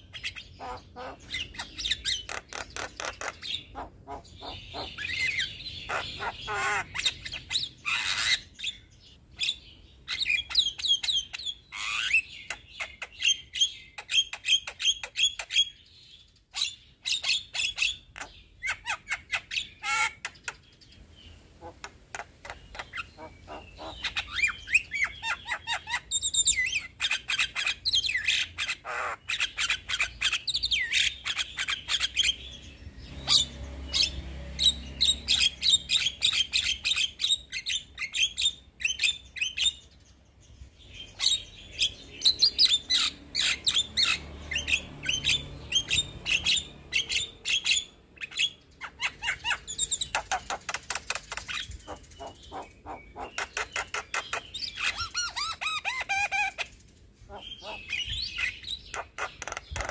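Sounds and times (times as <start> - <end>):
bird chattering and whistling: 0.0 - 15.9, 16.5 - 39.9, 41.0 - 59.9.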